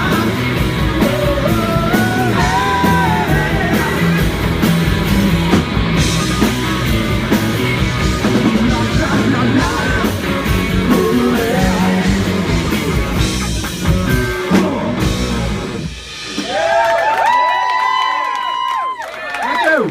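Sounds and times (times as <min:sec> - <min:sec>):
rock band playing: 0:00.0 - 0:17.9.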